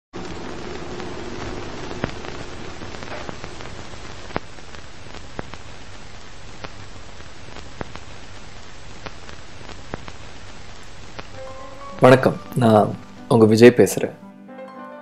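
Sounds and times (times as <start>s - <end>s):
record surface hiss and crackle: 0.2s - 14.5s.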